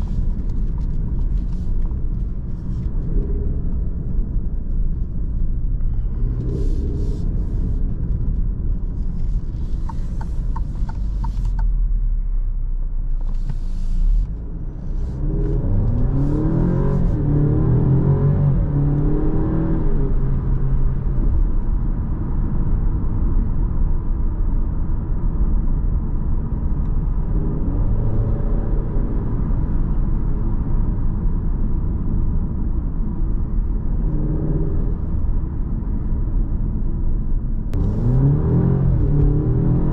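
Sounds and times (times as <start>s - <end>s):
car engine rumble from inside: 0.0s - 39.9s.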